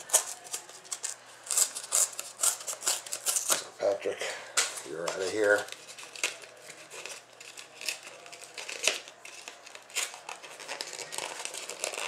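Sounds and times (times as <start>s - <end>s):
card stock ripping: 0.0s - 3.7s, 4.9s - 12.0s.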